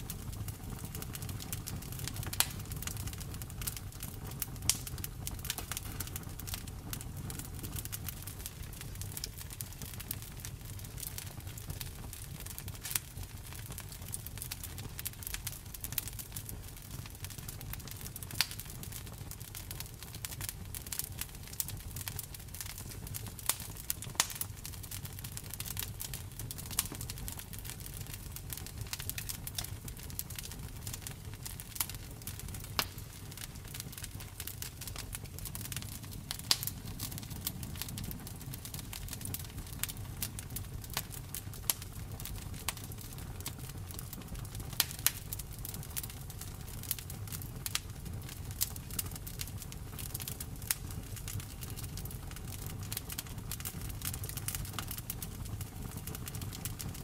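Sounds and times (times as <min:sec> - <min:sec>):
campfire wood crackling and popping: 0:00.0 - 0:57.0
low fire rumble: 0:00.0 - 0:57.0.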